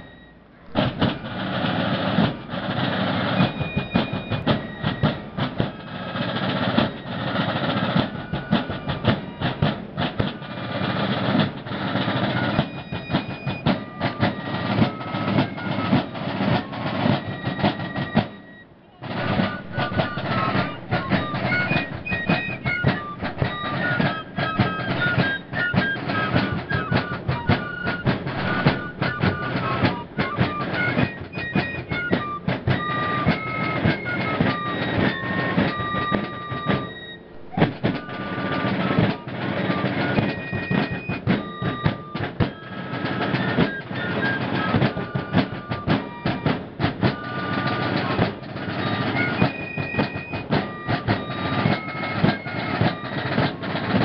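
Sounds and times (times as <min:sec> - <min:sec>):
fifes playing a tune: 0:00.0 - 0:54.0
snare and bass drums: 0:00.0 - 0:54.0.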